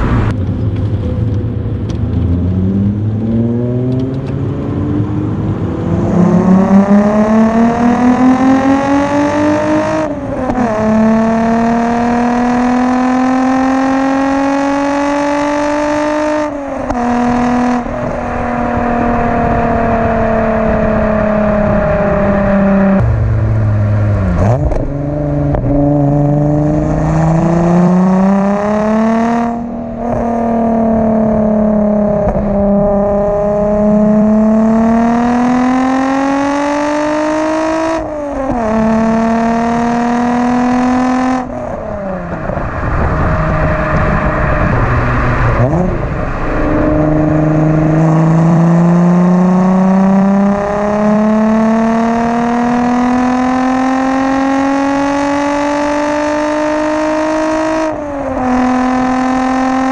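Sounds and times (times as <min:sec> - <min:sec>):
car exhaust accelerating hard: 0:00.0 - 0:59.9.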